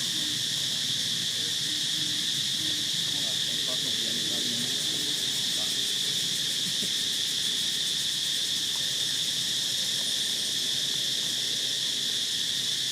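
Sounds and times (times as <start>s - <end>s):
insects droning: 0.0s - 12.9s.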